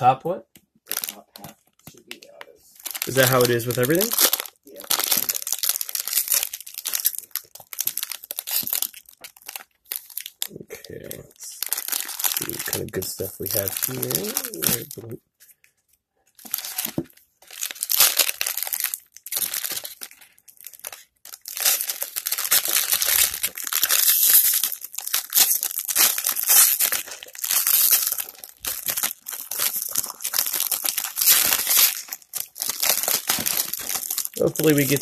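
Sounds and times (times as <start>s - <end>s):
foil wrapper crinkling: 2.8s - 15.1s, 16.4s - 35.0s.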